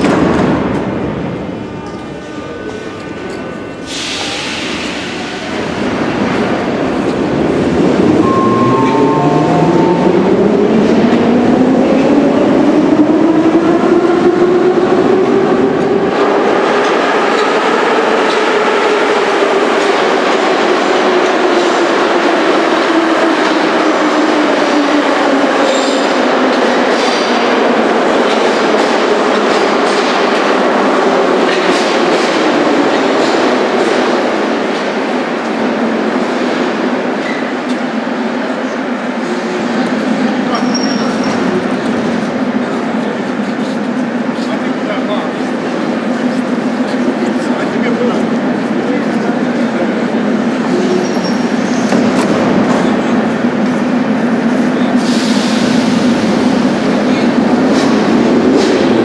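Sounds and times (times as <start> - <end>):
rumble and clatter of train cars: 0.0 - 59.0
metro train motors whining: 0.6 - 59.0.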